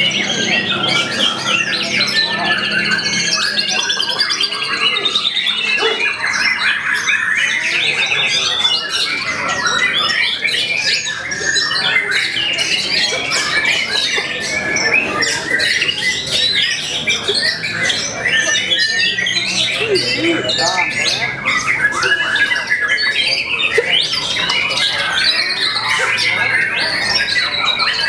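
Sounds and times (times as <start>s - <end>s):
bird singing chirps and trills: 0.0s - 28.0s.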